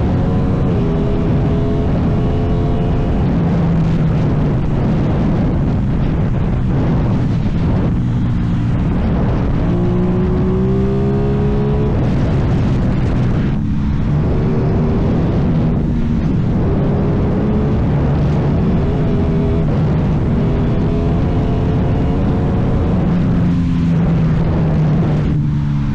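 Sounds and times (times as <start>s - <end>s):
motorcycle engine revving: 0.0s - 25.9s
wind and road noise: 0.0s - 25.9s.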